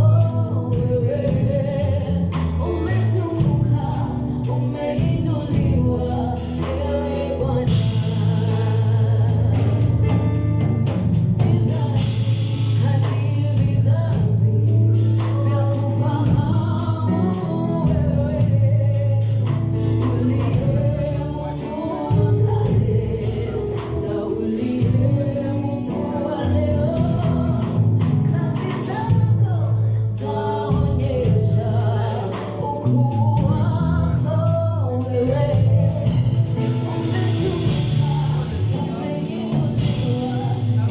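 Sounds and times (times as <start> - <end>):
bass line: 0.0 - 40.9
percussion: 0.0 - 40.9
voices singing gospel music: 0.0 - 40.9.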